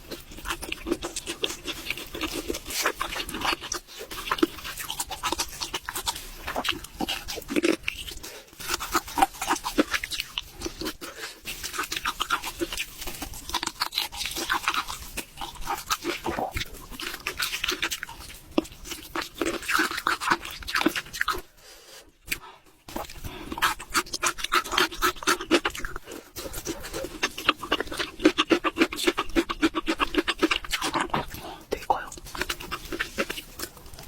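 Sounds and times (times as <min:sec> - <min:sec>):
chewing and crunching food: 0:00.0 - 0:34.0.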